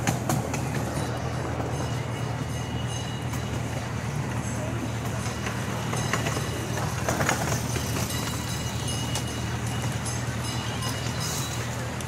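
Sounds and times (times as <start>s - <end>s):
train cars clicking and rattling: 0.0s - 12.0s
train engine drone: 0.0s - 12.0s.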